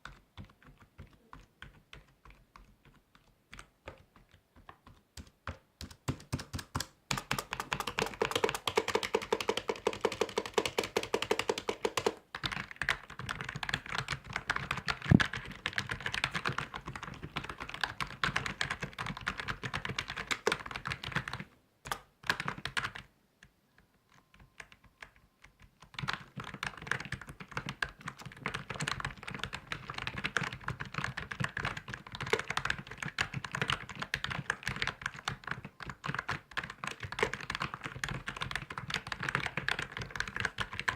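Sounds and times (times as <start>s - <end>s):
fast typing on keyboard: 0.0s - 23.1s, 24.1s - 40.9s.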